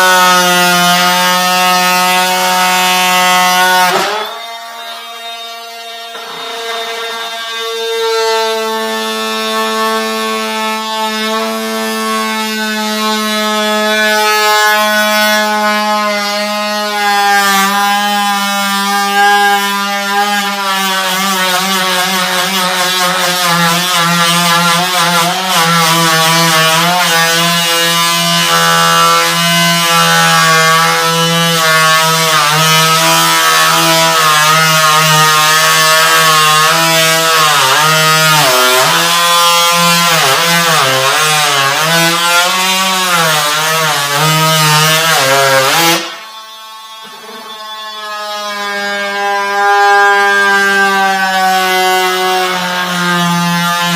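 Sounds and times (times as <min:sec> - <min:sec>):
power tool motor whining: 0:00.0 - 0:14.8, 0:15.4 - 0:53.9.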